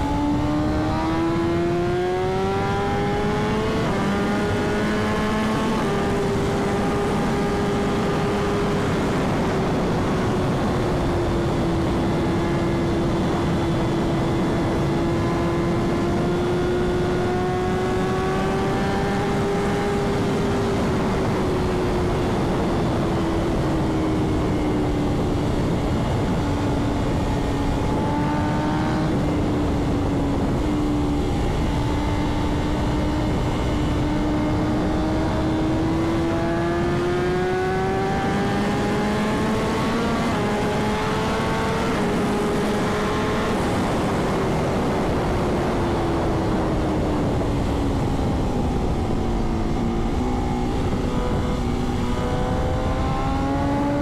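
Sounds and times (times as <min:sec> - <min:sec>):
motorcycle engine at high speed: 0:00.0 - 0:54.0.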